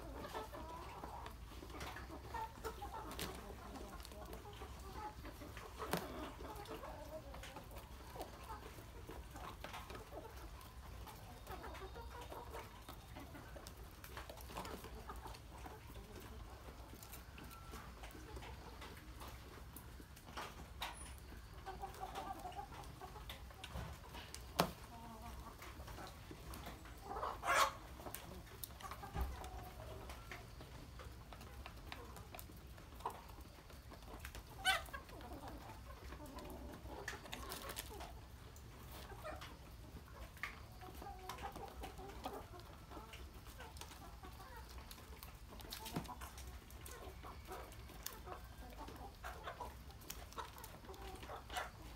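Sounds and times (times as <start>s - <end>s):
chickens clucking: 0.0s - 51.9s.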